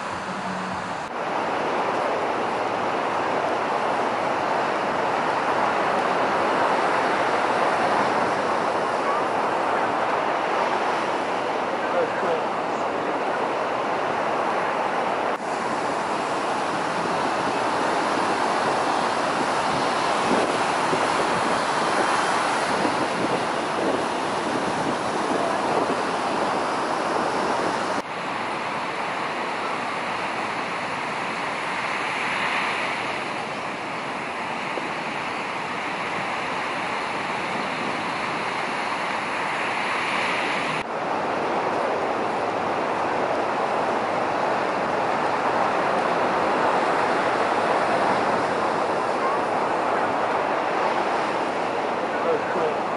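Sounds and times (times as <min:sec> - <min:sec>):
waves breaking on beach: 0:00.0 - 0:52.9
wind: 0:00.0 - 0:52.9.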